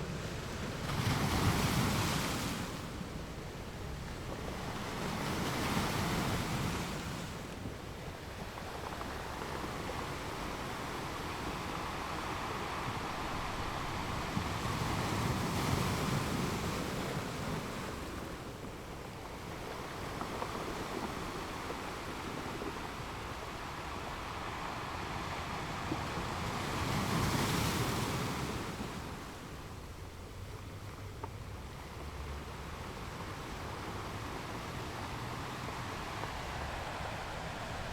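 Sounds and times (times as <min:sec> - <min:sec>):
waves breaking on rocky shore: 0:00.0 - 0:37.9.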